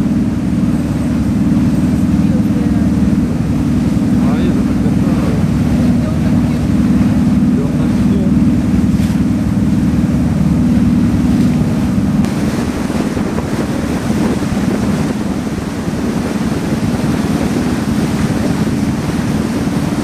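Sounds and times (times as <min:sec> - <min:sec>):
boat engine drone: 0:00.0 - 0:20.0
water rushing past hull: 0:00.0 - 0:20.0
wind buffeting microphone: 0:00.0 - 0:20.0.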